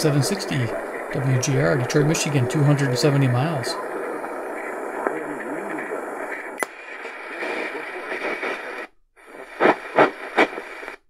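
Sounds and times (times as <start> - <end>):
faint voice on radio: 0.0 - 10.6
radio static hiss: 0.0 - 11.0.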